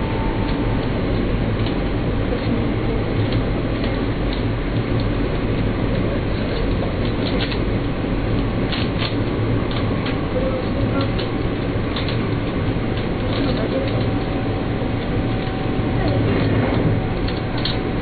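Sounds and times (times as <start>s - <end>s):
faint steady whine: 0.0s - 18.0s
train rumbling along track: 0.0s - 18.0s.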